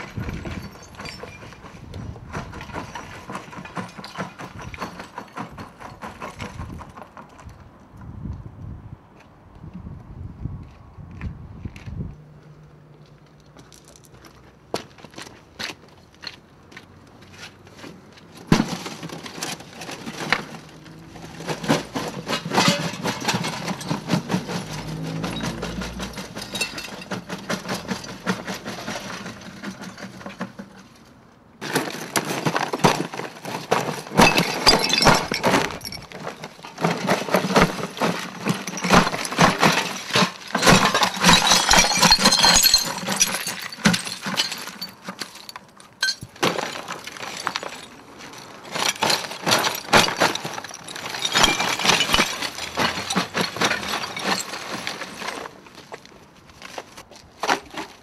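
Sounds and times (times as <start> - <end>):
rubble crashing onto pavement: 0.0 - 7.6, 18.4 - 31.0, 31.6 - 58.0.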